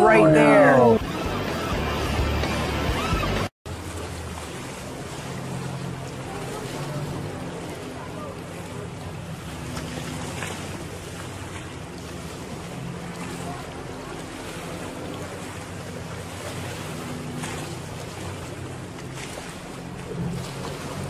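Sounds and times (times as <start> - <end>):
distant motorboat engine: 0.0 - 21.0.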